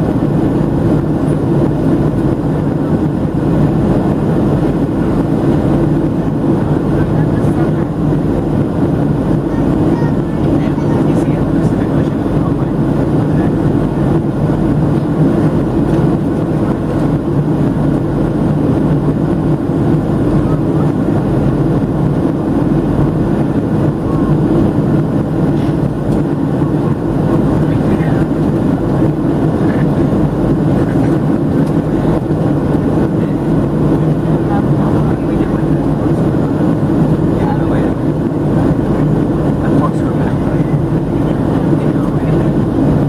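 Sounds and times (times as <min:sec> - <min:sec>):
airplane cabin drone: 0:00.0 - 0:43.0.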